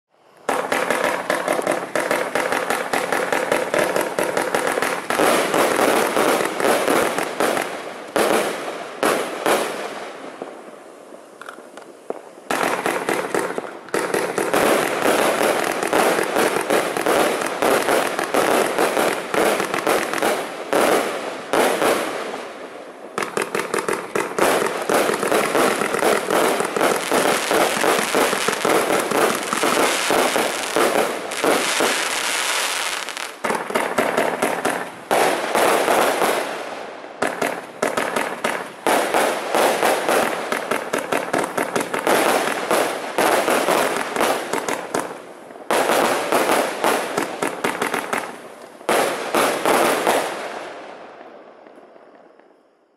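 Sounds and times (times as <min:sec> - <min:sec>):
fireworks launching and crackling: 0:00.3 - 0:52.6.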